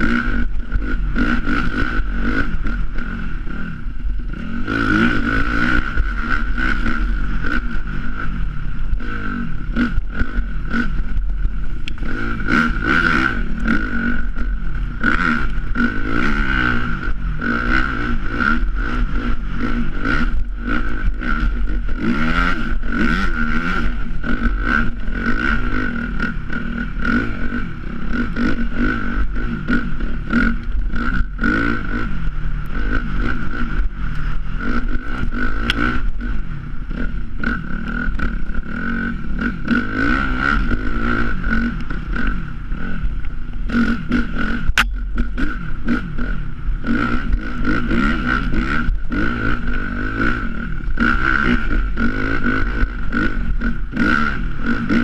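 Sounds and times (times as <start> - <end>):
dirt bike engine revving: 0.0 - 55.0
steady high whine: 0.0 - 55.0.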